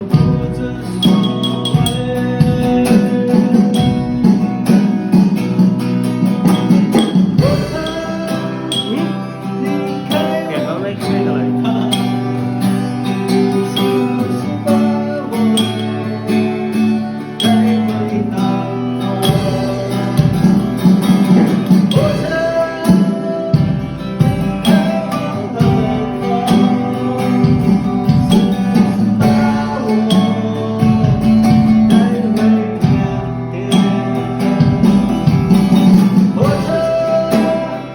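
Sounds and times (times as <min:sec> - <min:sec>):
person singing: 0:00.0 - 0:37.9
strummed guitar: 0:00.0 - 0:37.9.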